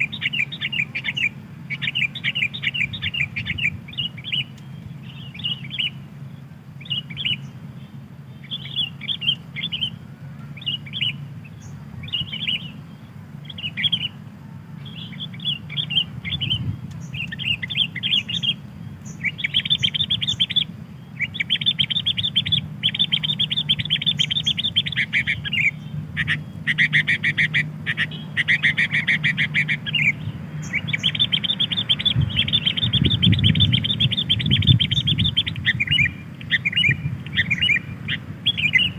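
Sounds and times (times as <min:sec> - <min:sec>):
bulbuls chirping: 0:00.0 - 0:38.9.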